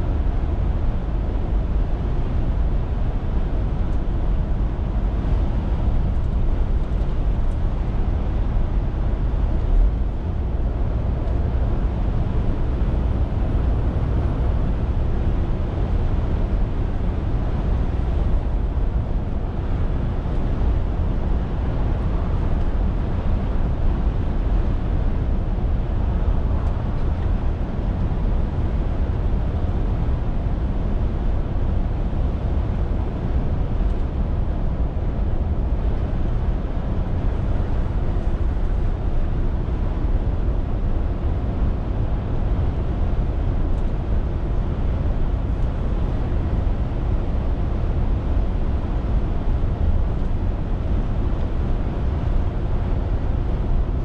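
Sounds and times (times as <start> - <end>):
lorry diesel engine drone: 0.0 - 54.0
road noise: 0.0 - 54.0.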